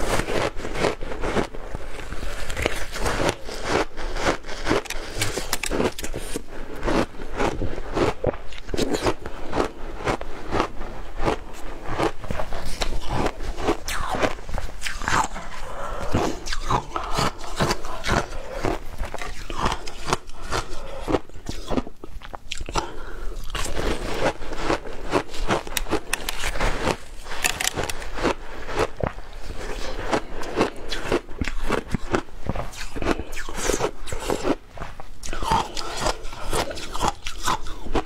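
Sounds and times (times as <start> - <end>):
ice crunching between teeth: 0.0 - 38.0.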